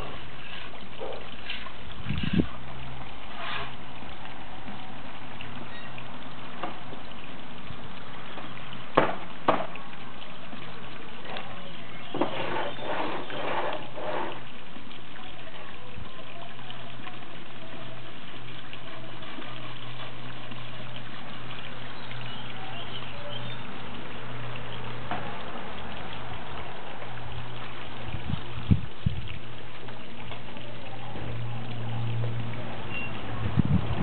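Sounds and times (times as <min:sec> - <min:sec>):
fish splashing: 0:00.0 - 0:34.0
pond water trickling: 0:00.0 - 0:34.0.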